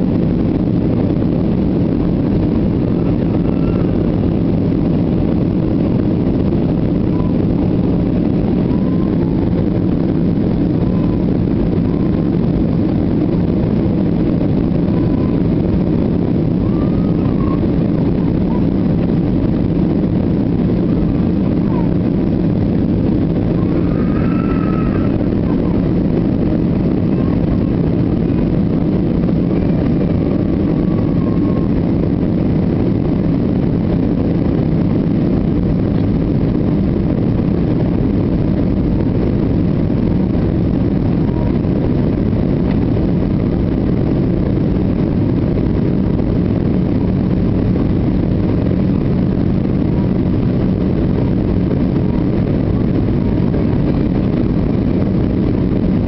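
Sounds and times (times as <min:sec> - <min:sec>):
airliner cabin engine rumble: 0:00.0 - 0:56.0
faint hum: 0:00.0 - 0:56.0.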